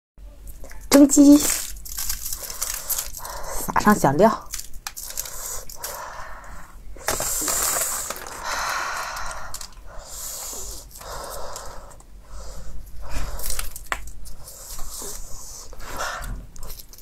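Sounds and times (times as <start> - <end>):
foil crinkling: 0.5 - 6.2, 7.0 - 11.6, 13.0 - 17.0.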